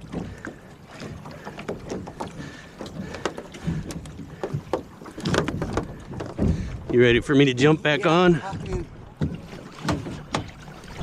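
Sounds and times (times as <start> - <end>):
person wading splashes: 0.0 - 7.0, 8.0 - 11.0
water sloshing against hull: 0.0 - 11.0.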